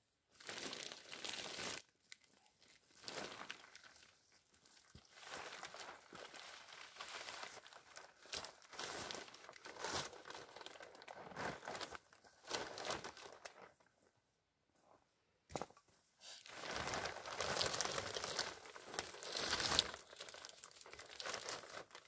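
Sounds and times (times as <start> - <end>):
plastic bags crinkling and rustling: 0.4 - 13.9, 16.4 - 22.0.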